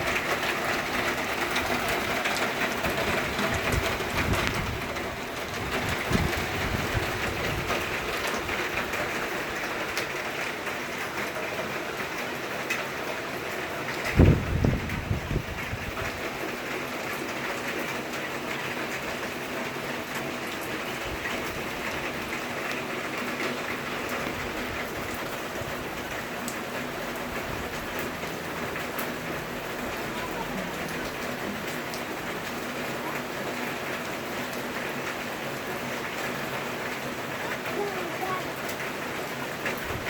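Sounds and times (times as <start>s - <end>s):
raindrop ticks: 0.0s - 40.0s
steady rain falling: 0.0s - 40.0s.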